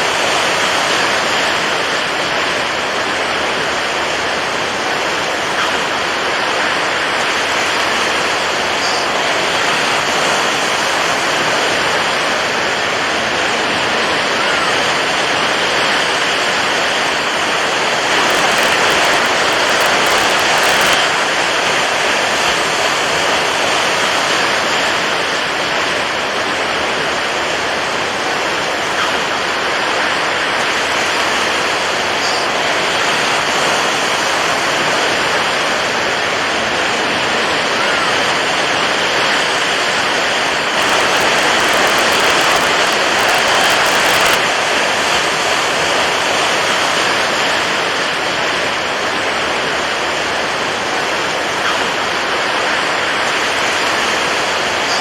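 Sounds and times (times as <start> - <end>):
water waves rushing: 0.0 - 55.0.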